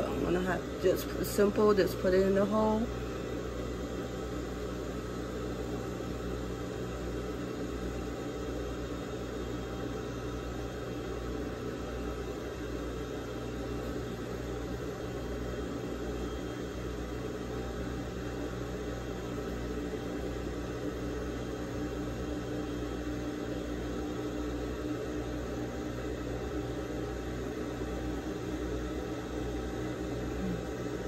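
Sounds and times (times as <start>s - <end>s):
electric motor hum: 0.0s - 31.0s.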